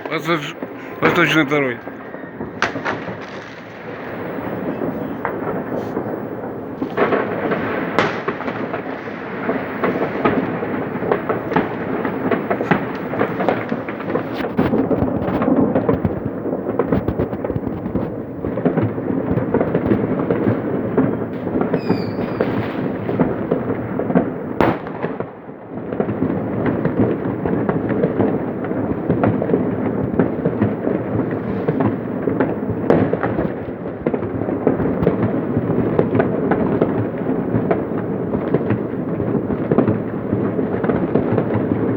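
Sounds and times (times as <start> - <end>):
fireworks crackling and banging: 0.0 - 41.9.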